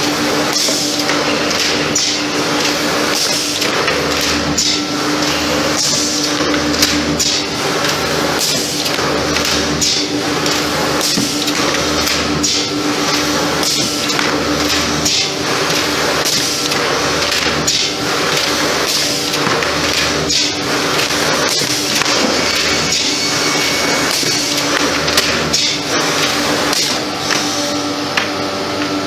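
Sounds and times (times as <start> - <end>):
machine humming with low pulse: 0.0 - 29.0
machine clicks and knocks: 0.4 - 27.5.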